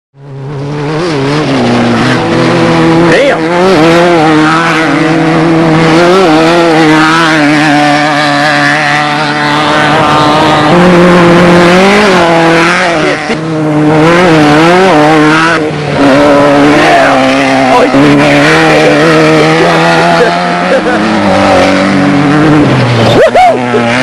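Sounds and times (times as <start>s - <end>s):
race vehicle engine revving: 0.2s - 24.0s.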